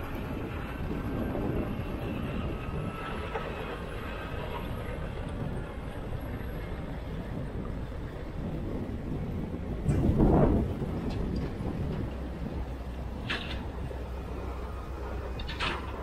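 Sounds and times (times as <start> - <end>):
crawler loader driving: 0.0 - 16.0
excavator digging: 0.0 - 16.0.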